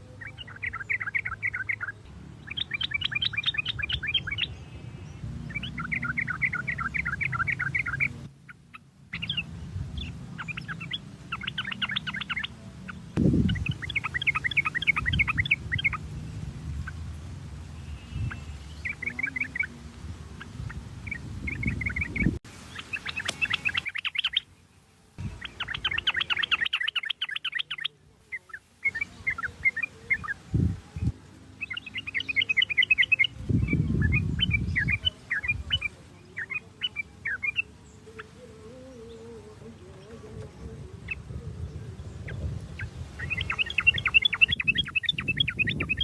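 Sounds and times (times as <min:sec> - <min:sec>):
bird chattering song: 0:00.0 - 0:17.1, 0:17.7 - 0:46.0.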